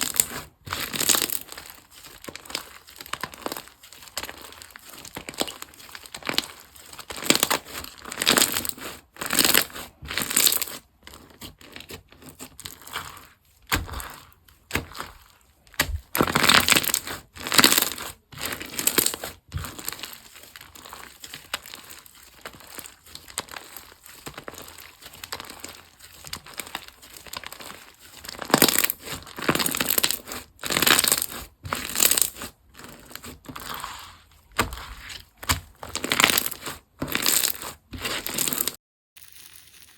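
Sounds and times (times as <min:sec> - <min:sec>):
slime squishing by hand: 0:00.0 - 0:38.8.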